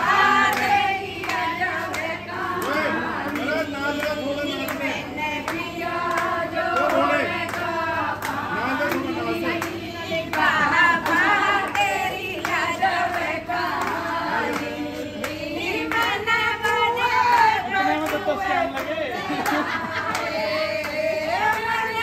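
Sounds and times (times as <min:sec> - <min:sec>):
hand clapping: 0:00.0 - 0:22.0
voices singing together: 0:00.0 - 0:22.0.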